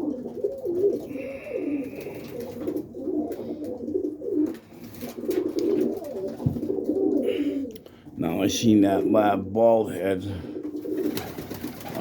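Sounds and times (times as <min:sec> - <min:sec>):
pigeons cooing: 0:00.0 - 0:09.5, 0:10.2 - 0:12.0.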